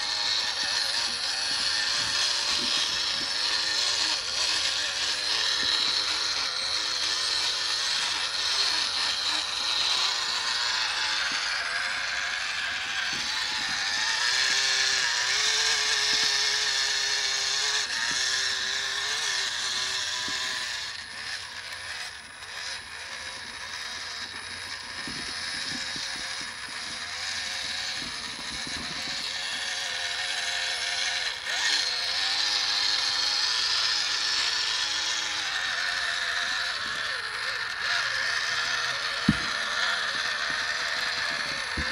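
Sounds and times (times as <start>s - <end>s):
toy truck electric motor whining: 0.0s - 41.9s.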